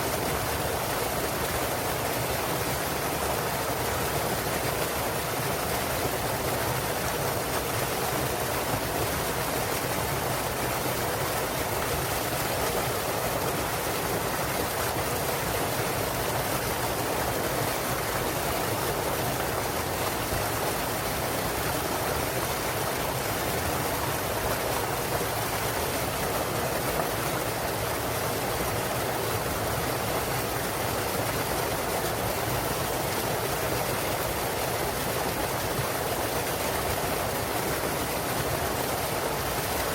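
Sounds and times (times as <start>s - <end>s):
stream rushing over waterfall: 0.0s - 39.9s.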